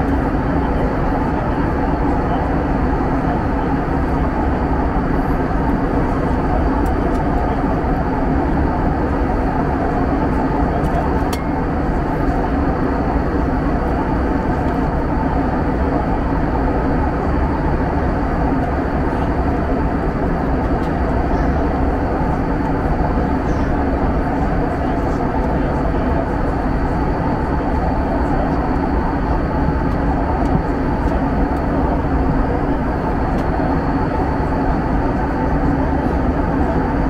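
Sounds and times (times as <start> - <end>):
airplane cabin drone: 0.0 - 37.0.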